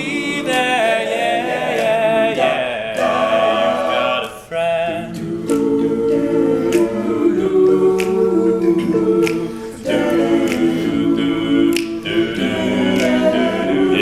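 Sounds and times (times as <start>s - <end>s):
male group singing chords: 0.0s - 14.0s.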